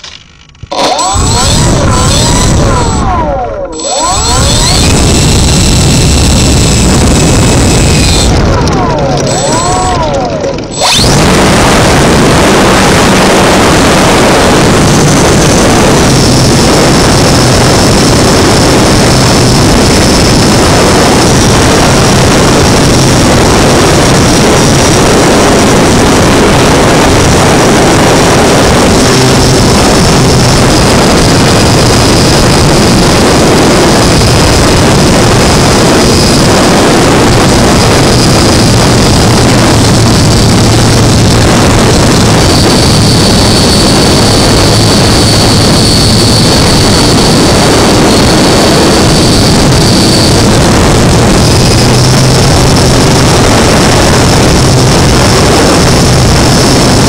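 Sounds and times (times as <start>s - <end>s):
model plane motor whine: 0.0s - 57.0s
wind rushing on microphone: 0.6s - 57.0s.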